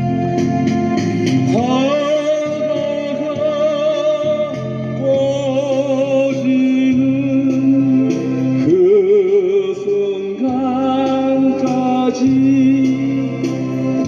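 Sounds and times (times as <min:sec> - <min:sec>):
keyboard accompaniment: 0:00.0 - 0:14.0.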